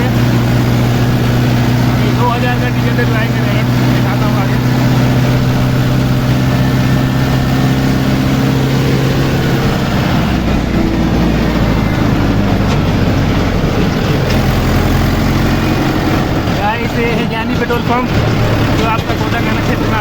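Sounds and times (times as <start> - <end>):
road noise: 0.0 - 20.0
tractor diesel engine running: 0.0 - 20.0.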